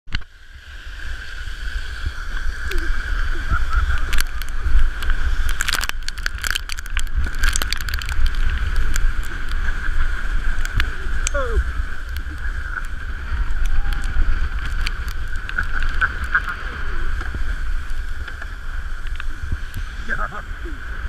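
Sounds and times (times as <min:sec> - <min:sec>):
wind rumble on microphone: 0:00.1 - 0:21.0
sled scraping over snow: 0:00.7 - 0:21.0.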